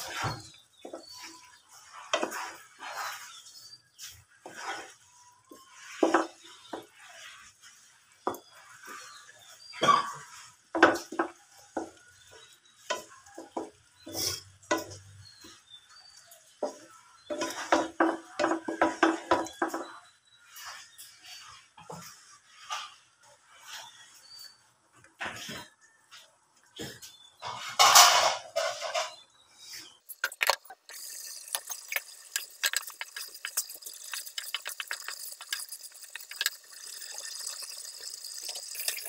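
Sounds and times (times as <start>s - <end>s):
spatula scraping frying pan: 0.0s - 24.6s, 26.8s - 39.0s.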